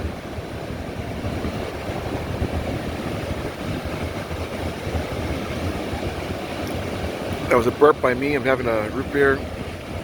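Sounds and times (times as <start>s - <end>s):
ocean surf hiss: 0.0s - 10.0s
wind buffeting microphone: 0.0s - 10.0s.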